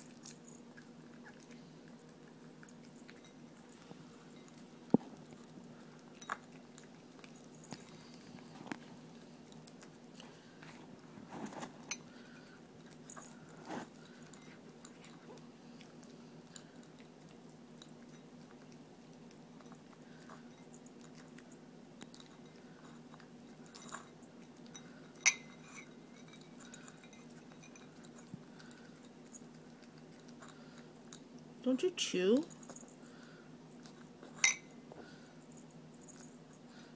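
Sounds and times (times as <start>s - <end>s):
puppy crunching dry kibble: 0.0s - 31.7s, 32.4s - 36.9s.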